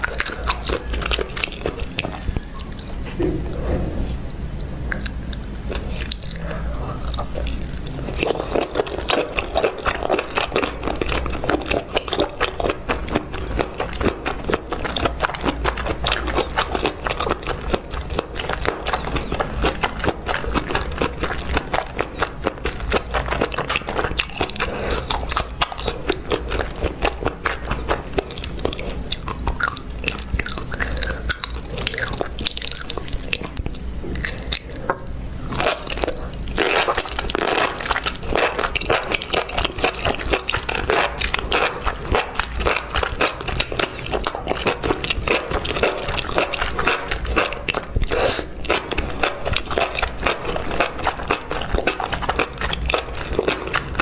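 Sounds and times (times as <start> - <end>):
person biting and chewing food: 0.0 - 3.1, 4.8 - 54.0
mouth clicks and smacks: 0.0 - 4.2, 4.9 - 54.0.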